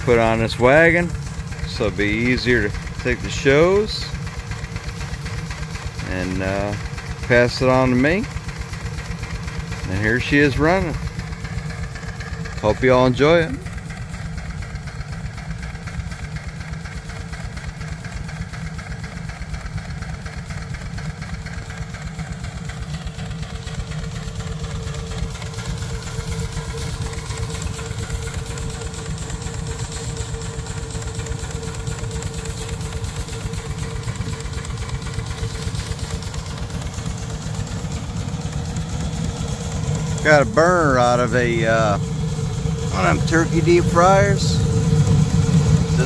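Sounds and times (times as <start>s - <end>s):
steady hum: 0.0s - 15.8s, 24.7s - 46.0s
steam engine running: 0.0s - 46.0s.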